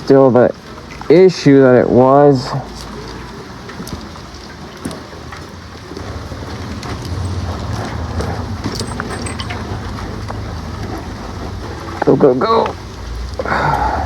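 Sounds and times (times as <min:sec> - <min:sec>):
rain ticking: 0:00.0 - 0:14.0.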